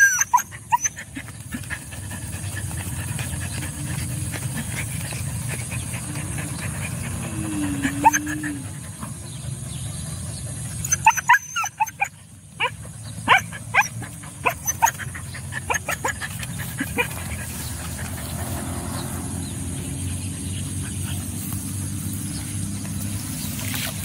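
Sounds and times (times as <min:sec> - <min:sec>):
dogs yipping and barking: 0:00.0 - 0:24.0.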